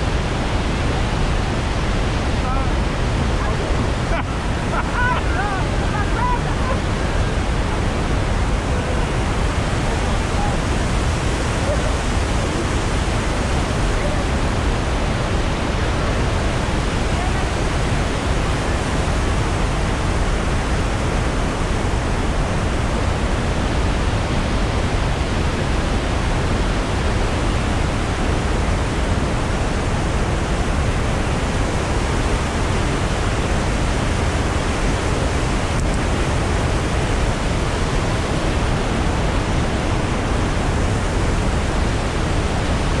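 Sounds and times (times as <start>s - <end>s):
rushing rapids and waterfalls: 0.0s - 43.0s.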